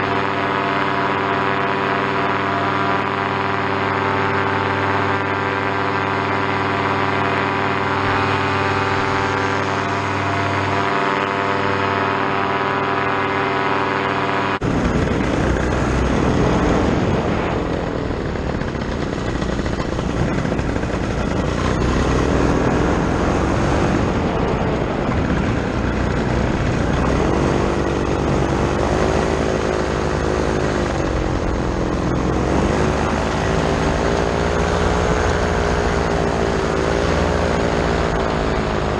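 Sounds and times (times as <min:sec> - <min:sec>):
paramotor engine and propeller drone: 0:00.0 - 0:38.9.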